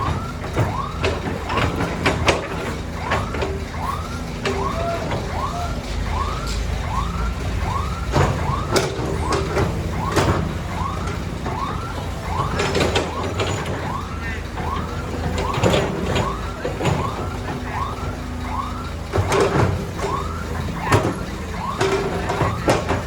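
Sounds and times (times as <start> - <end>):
diesel machinery engine running: 0.0 - 23.0
knocks and clanks: 0.0 - 23.0.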